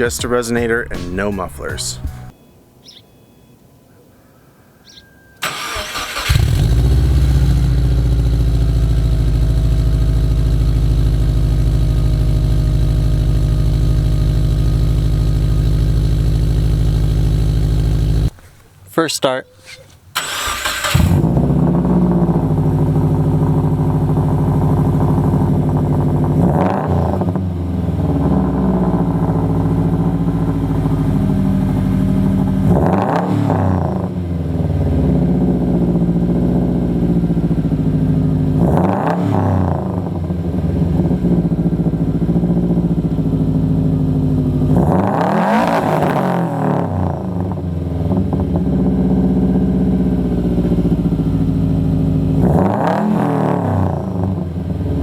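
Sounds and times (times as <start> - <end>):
car engine starting and idling: 0.0 - 2.3, 5.4 - 18.4, 19.8 - 55.0
car engine revving: 5.4 - 18.3, 20.2 - 55.0.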